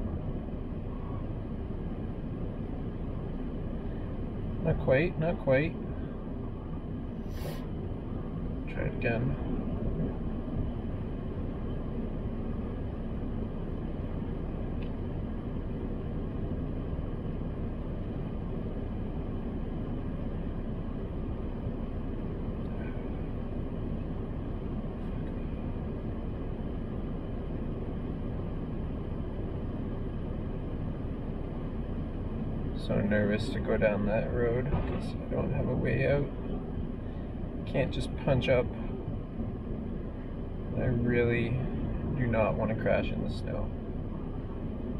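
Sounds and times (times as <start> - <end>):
car cabin rumble and hiss: 0.0 - 44.9.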